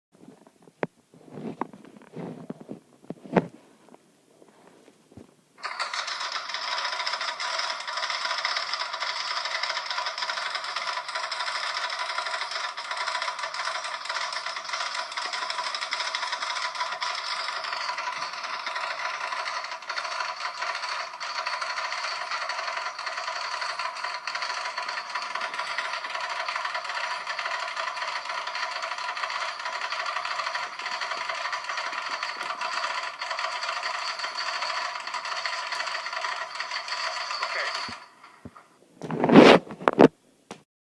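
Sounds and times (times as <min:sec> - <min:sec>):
metal chain dragging on ground: 0:05.6 - 0:40.0.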